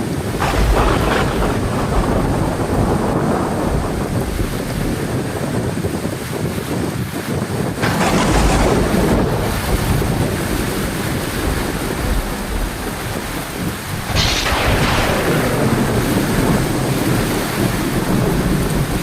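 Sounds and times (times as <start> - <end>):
heavy rain falling: 0.0 - 19.0
low rolling thunder: 0.0 - 19.0.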